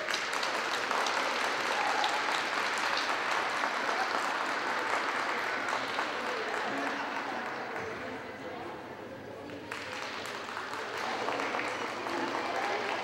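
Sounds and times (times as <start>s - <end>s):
audience applauding: 0.0s - 7.8s, 9.7s - 13.0s.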